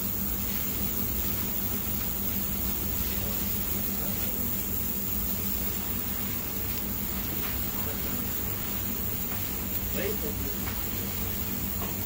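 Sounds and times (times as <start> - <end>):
low constant hum: 0.0 - 12.0
steady fan hiss: 0.0 - 12.0.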